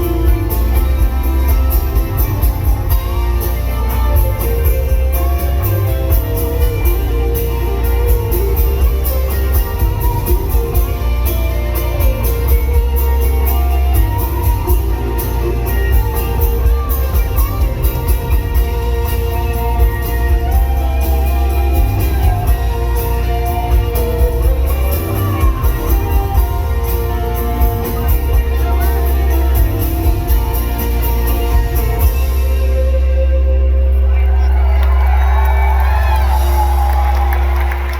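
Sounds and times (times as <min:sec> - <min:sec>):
live rock band playing: 0:00.0 - 0:37.9.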